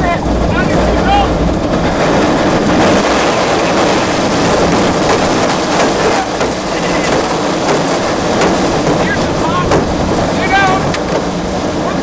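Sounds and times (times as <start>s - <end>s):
loud rushing wind and rain: 0.0s - 12.0s
rain and debris striking vehicle: 0.0s - 12.0s.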